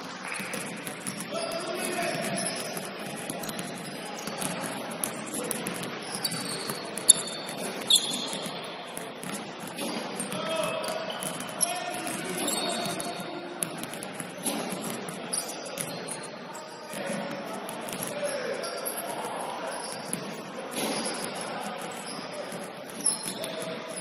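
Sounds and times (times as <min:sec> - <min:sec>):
faint voices: 0:00.0 - 0:24.0
basketballs bouncing on hardwood floor: 0:00.3 - 0:16.3, 0:16.9 - 0:18.2, 0:19.9 - 0:24.0.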